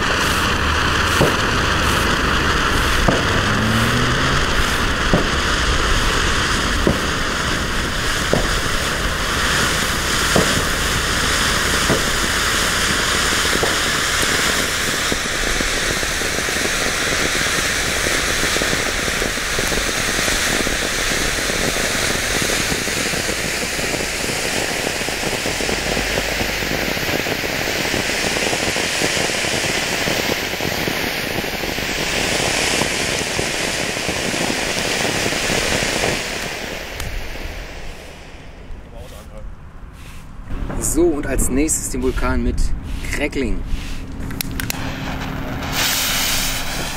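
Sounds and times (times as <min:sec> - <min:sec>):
firework pops: 0:00.0 - 0:39.4, 0:44.0 - 0:46.9
firework fountain hissing: 0:00.0 - 0:46.9.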